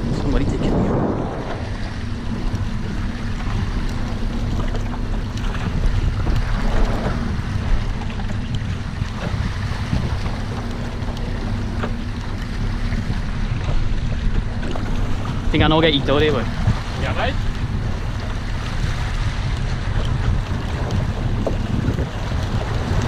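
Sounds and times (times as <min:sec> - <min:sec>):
boat engine humming: 0:00.0 - 0:23.0
sea wash: 0:00.0 - 0:23.0
wind buffeting microphone: 0:00.0 - 0:23.0.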